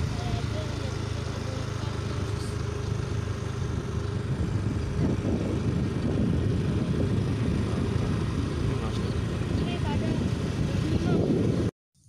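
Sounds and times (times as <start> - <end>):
low engine hum: 0.0 - 11.7
rough low rumble: 0.0 - 11.7.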